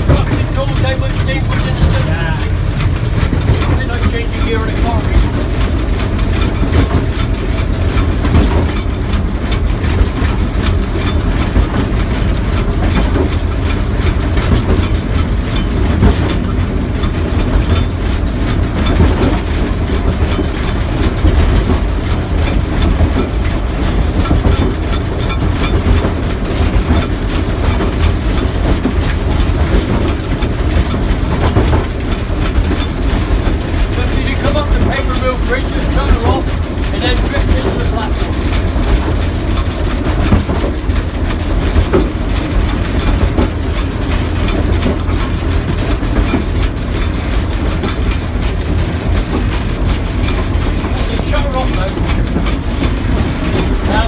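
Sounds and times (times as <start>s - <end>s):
steam locomotive rumble: 0.0s - 54.0s
wheels clattering on rails: 0.0s - 54.0s.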